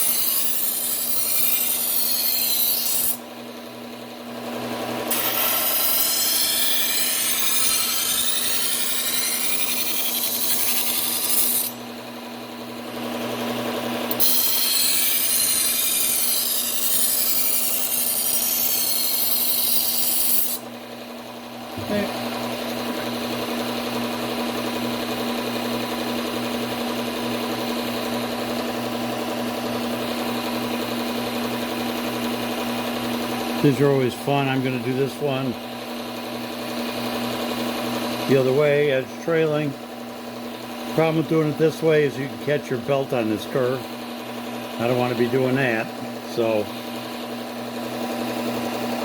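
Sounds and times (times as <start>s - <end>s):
belt sander grinding knife: 0.0s - 21.0s, 21.8s - 49.0s
belt sander humming: 0.0s - 49.0s.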